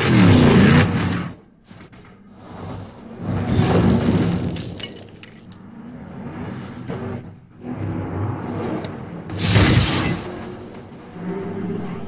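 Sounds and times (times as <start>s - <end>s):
vehicle sounds: 0.0s - 12.0s.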